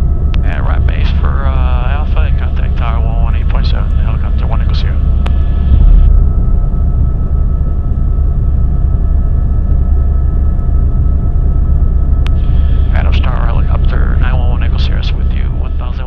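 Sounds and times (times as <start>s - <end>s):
faint whining tones: 0.0s - 16.0s
helicopter cabin drone: 0.0s - 16.0s.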